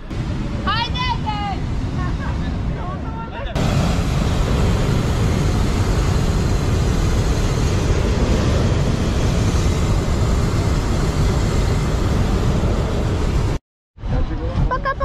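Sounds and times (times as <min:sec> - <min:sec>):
propane burner roaring: 0:00.0 - 0:13.6.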